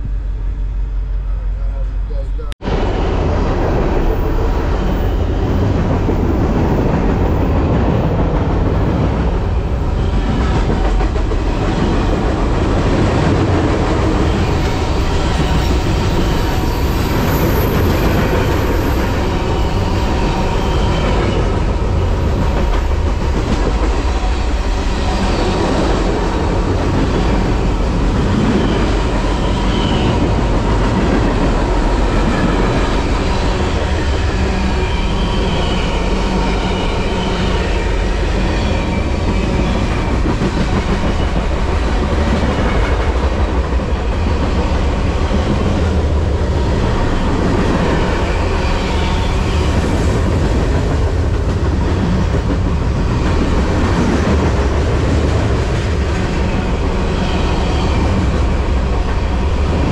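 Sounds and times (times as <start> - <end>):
freight train rolling on rails: 0.0 - 59.9.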